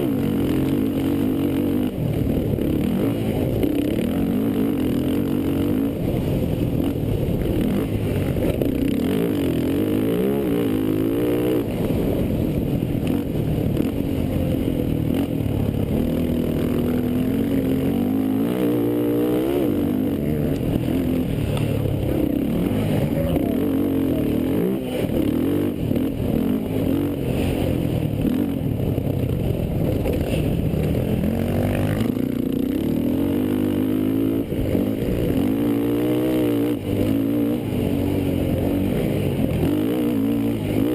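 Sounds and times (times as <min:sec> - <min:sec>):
quad engines revving: 0:00.0 - 0:40.9.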